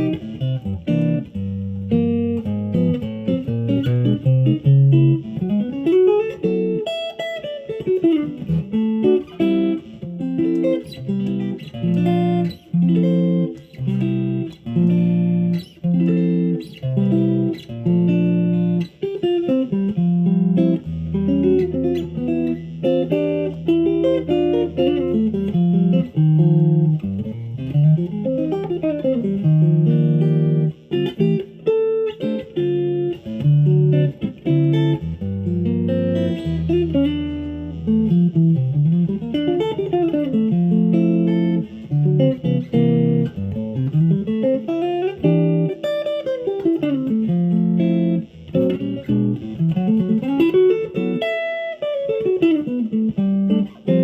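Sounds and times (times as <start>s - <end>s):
electric guitar playing: 0.0s - 54.0s.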